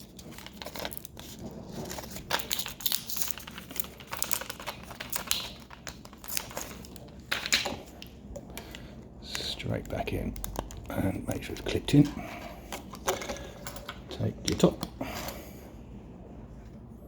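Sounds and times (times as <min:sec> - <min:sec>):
plastic packaging crinkling: 0:00.0 - 0:08.2, 0:09.4 - 0:15.0
packaging rustling: 0:00.0 - 0:15.5.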